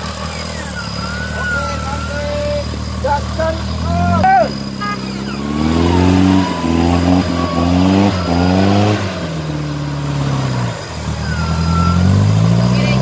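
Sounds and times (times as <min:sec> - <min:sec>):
high whine: 0:00.0 - 0:12.9
engine revving hard: 0:00.0 - 0:13.0
tyres spinning in mud: 0:00.0 - 0:13.0.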